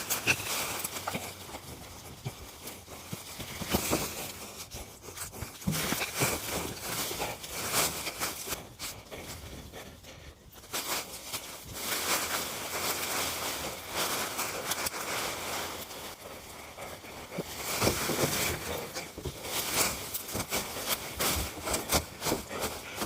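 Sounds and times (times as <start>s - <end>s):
branches and leaves rustling: 0.0s - 23.0s.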